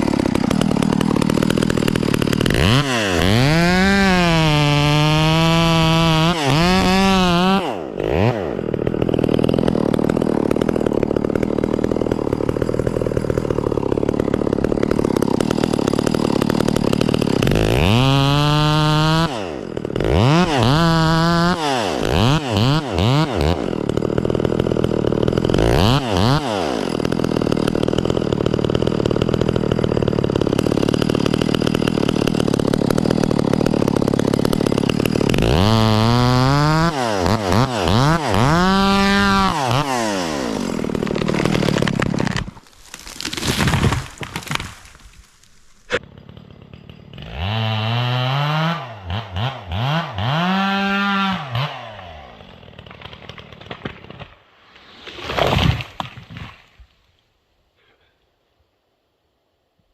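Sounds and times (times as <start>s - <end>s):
chainsaw cutting: 0.0s - 56.9s.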